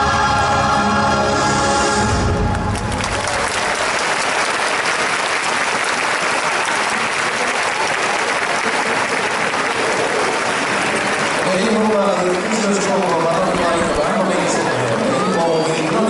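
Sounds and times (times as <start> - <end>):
crowd applauding: 2.4 - 16.0.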